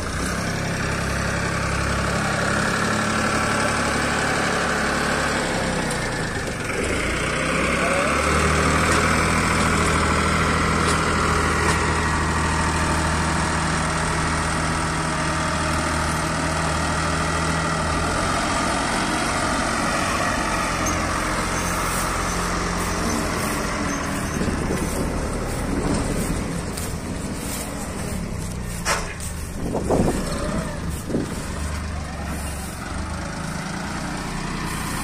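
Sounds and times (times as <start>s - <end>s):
harvester machinery noise: 0.0s - 35.0s
tractor engine drone: 0.0s - 35.0s.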